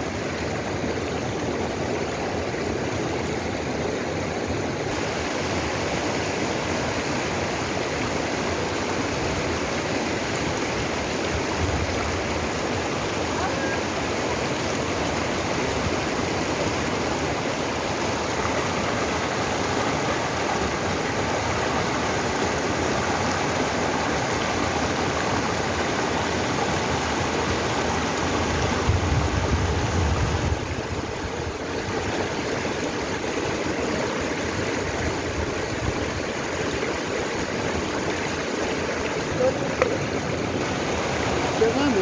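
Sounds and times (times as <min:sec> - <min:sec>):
stream running over rocks: 0:00.0 - 0:42.0.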